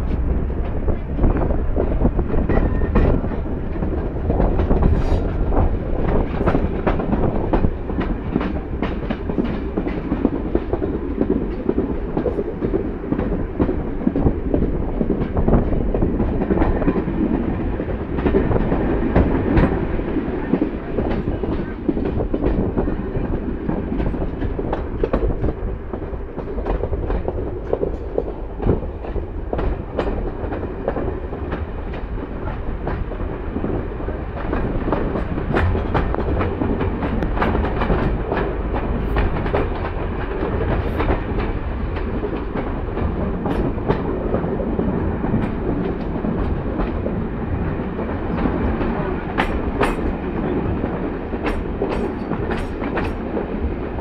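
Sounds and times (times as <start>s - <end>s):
rumble of train wheels on rails: 0.0s - 54.0s
wheels clicking over rail joints: 0.0s - 54.0s.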